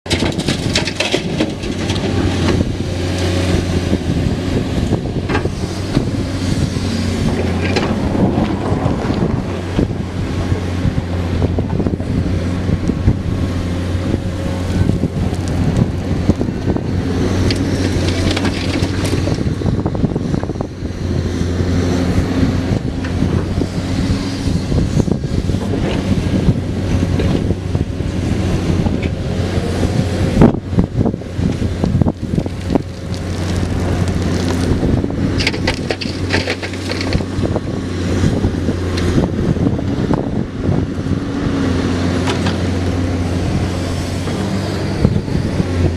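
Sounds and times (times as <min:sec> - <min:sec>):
excavator diesel engine running: 0:00.1 - 0:45.9
wind buffeting microphone: 0:00.1 - 0:45.9.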